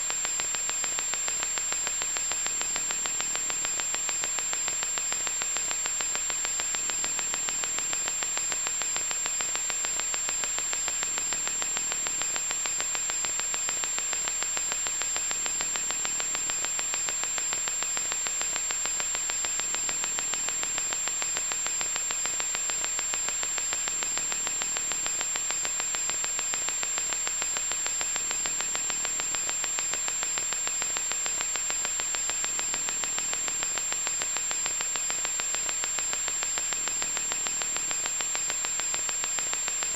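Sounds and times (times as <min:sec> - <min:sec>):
electronic static hiss: 0:00.0 - 0:39.9.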